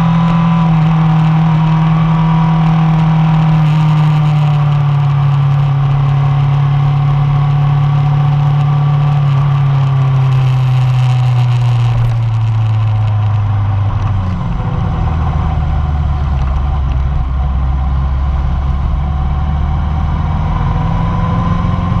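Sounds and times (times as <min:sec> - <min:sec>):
motorcycle engine slowing: 0:00.0 - 0:22.0.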